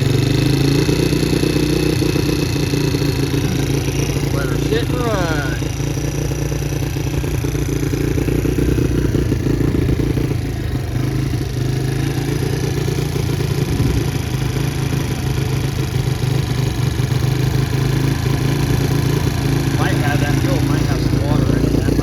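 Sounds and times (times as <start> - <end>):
small engine at high idle: 0.0 - 22.0.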